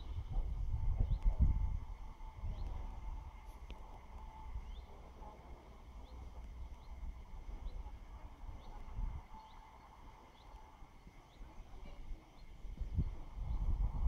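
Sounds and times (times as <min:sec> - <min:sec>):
low uneven rumble: 0:00.0 - 0:14.0
songbird chirping: 0:02.4 - 0:13.7.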